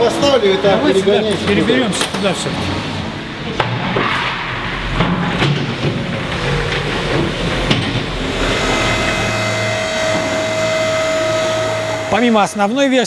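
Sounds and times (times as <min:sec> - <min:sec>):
sharp metallic knocks: 0:00.0 - 0:13.0
steady machine whine: 0:00.0 - 0:13.0
workshop din: 0:00.0 - 0:13.0.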